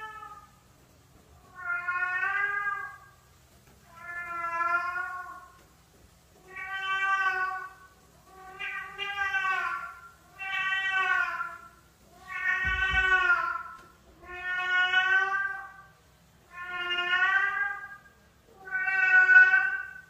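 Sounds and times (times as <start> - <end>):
cat meowing: 1.5 - 3.2, 3.8 - 5.6, 6.4 - 15.9, 16.5 - 20.0.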